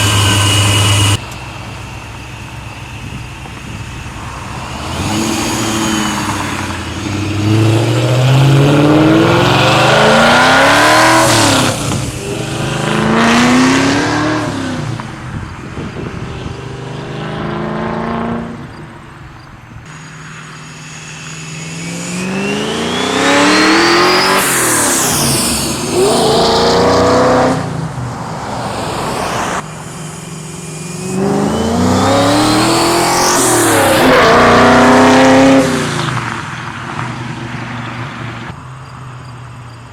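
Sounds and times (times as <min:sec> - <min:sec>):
raspy car exhaust: 0:00.0 - 0:39.9
car engine accelerating through gears: 0:04.1 - 0:19.0, 0:21.0 - 0:39.8.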